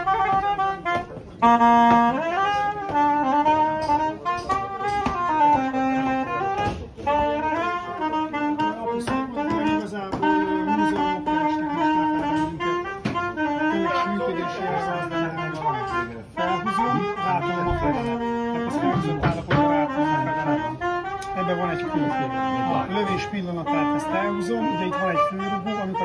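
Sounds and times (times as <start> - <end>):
reed woodwind slow melody: 0.0 - 26.0.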